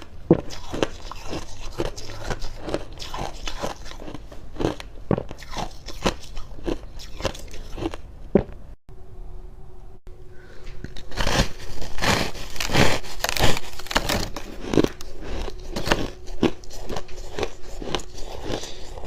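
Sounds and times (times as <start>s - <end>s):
frost being chewed: 0.0s - 8.0s, 10.8s - 19.0s.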